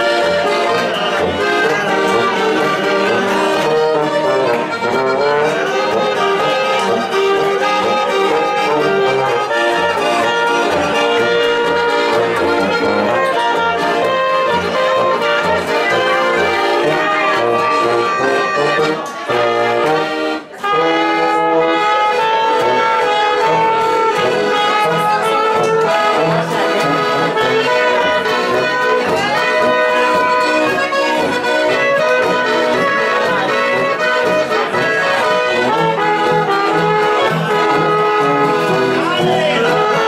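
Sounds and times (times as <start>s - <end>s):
folk band playing lively tune: 0.0s - 40.0s.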